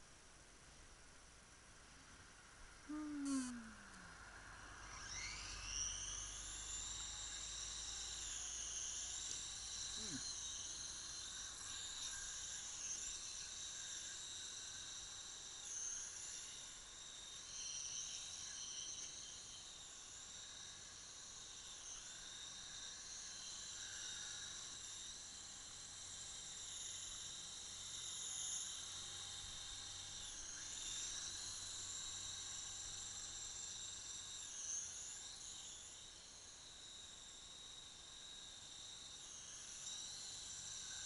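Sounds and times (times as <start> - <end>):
toy helicopter motor whine: 2.9 - 41.0.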